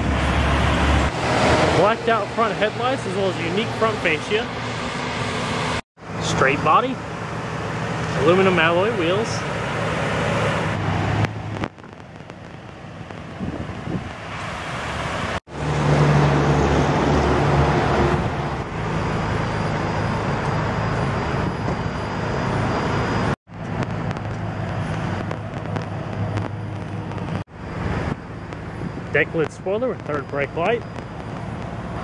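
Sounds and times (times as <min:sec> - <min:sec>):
road traffic hum: 0:00.0 - 0:32.0.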